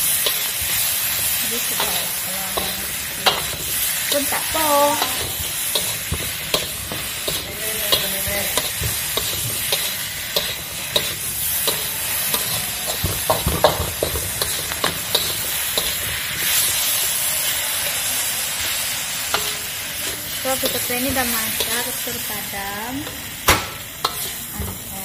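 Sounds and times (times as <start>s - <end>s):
metal spatula scraping a wok: 0.0s - 24.9s
food sizzling in oil: 0.0s - 25.0s.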